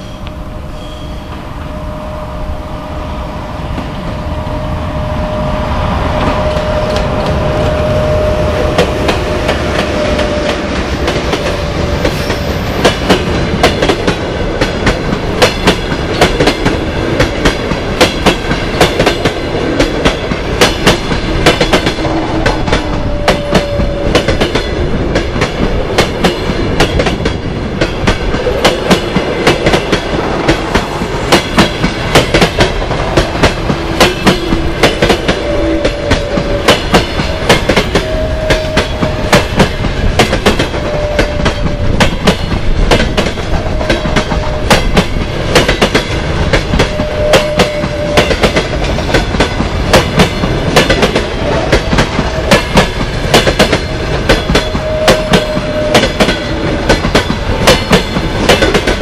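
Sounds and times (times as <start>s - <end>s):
train coaches rolling past: 0.0s - 59.0s.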